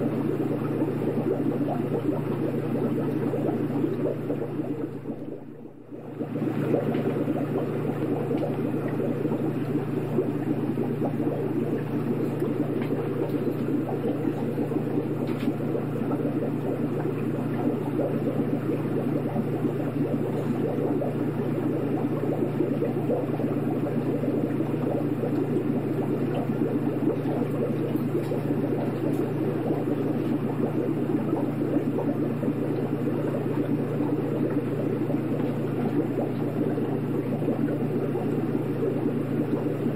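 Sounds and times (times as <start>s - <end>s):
aquarium pump humming: 0.0s - 39.9s
water bubbling: 0.0s - 39.9s.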